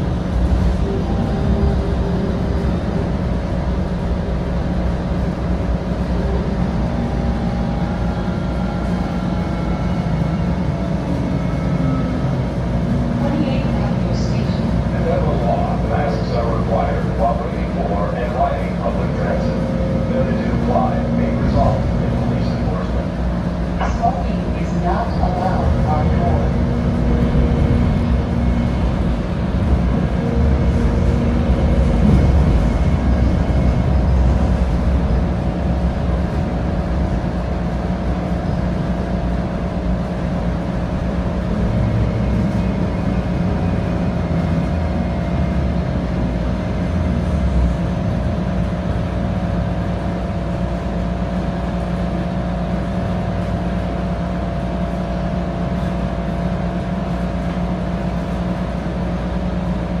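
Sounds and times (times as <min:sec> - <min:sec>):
train equipment hum: 0:00.0 - 1:00.0
train wheels rumbling on rail: 0:00.0 - 1:00.0.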